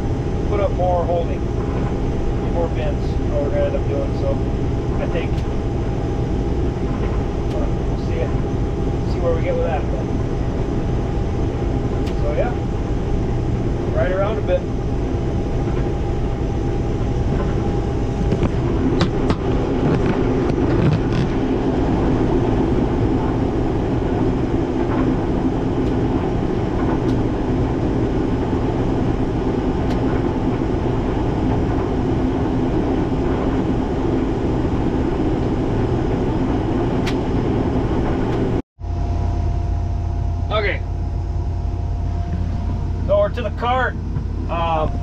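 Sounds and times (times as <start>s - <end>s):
combine harvester drone: 0.0s - 45.0s.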